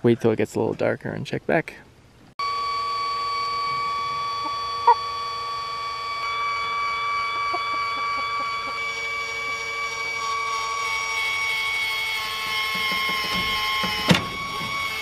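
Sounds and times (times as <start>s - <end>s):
steady high whine: 1.8s - 15.0s.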